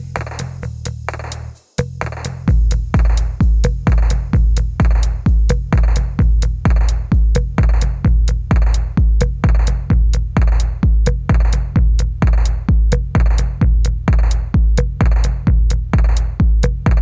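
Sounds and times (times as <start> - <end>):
heavy kick drum: 0.0 - 17.0
electronic dance music: 3.0 - 17.0.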